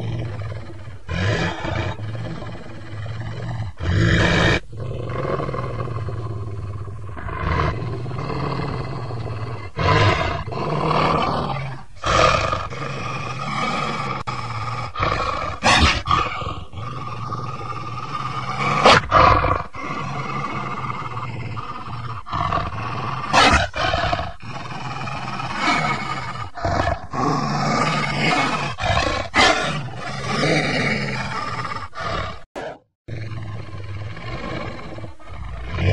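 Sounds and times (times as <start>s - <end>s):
wolves growling low: 0.0s - 35.9s
wolves snarling: 0.0s - 35.9s.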